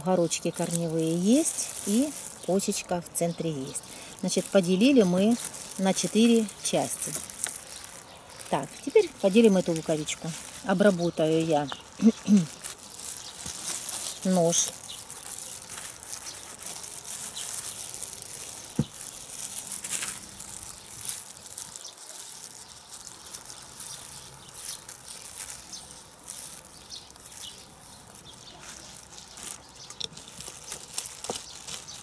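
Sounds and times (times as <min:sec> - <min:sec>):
plastic gloves rustling: 0:00.0 - 0:32.0
steady outdoor hiss: 0:00.0 - 0:32.0.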